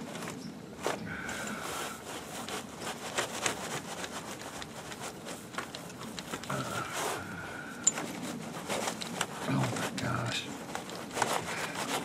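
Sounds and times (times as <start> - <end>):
hands and tools on metal parts: 0.0 - 12.0.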